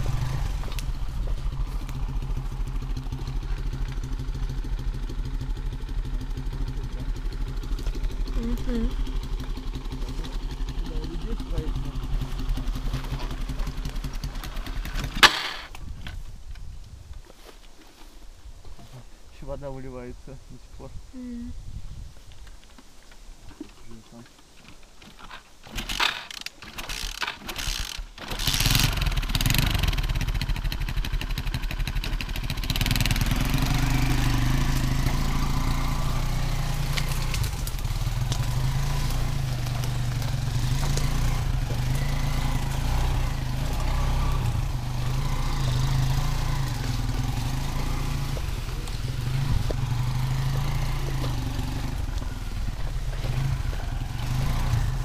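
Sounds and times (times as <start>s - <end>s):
small motorcycle engine starting: 0.0s - 16.2s, 25.0s - 55.0s.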